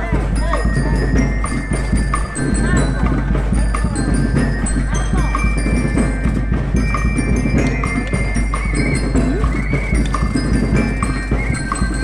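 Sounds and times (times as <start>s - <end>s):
drums and percussion beat: 0.0s - 12.0s
mallet percussion melody: 0.0s - 12.0s.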